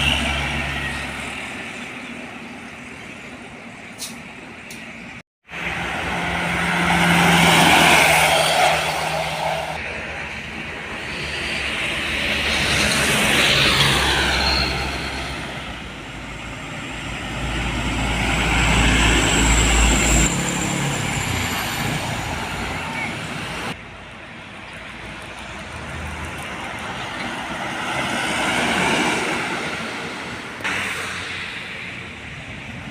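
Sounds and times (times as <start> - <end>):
vehicles passing: 0.0 - 32.9.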